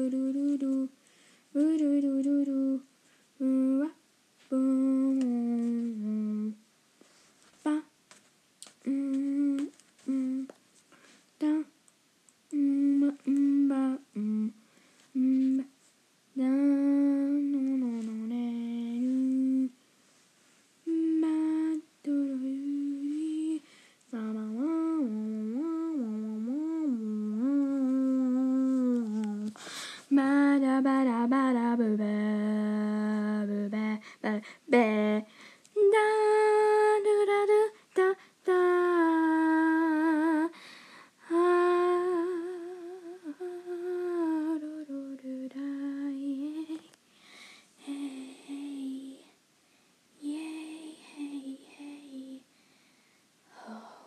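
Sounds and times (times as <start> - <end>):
person humming: 0.0 - 6.6, 7.6 - 7.9, 8.6 - 10.6, 11.4 - 11.8, 12.5 - 15.7, 16.4 - 19.8, 20.9 - 40.6, 41.2 - 47.0, 47.8 - 49.4, 50.2 - 52.4.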